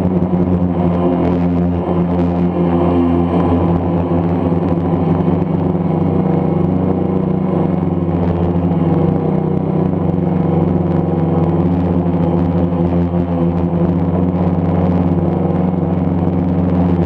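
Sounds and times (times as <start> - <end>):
camera drone hovering hum: 0.0 - 17.0.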